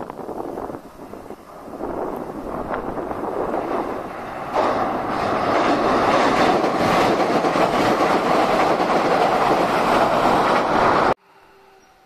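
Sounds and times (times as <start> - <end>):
train wheels rumbling on steel bridge: 0.0 - 11.2.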